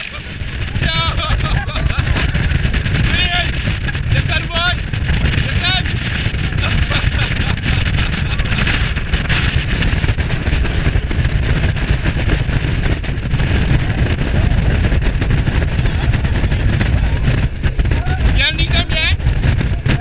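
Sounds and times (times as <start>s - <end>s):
speedboat engine: 0.0s - 20.0s
wind buffeting microphone: 0.0s - 20.0s.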